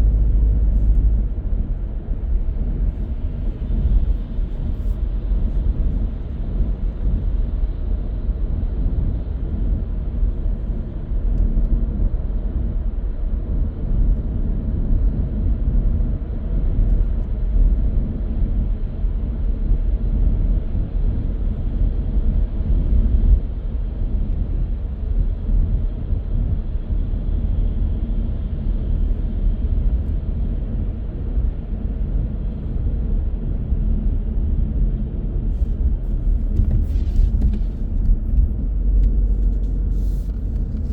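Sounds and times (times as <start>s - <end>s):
car road rumble: 0.0s - 40.9s.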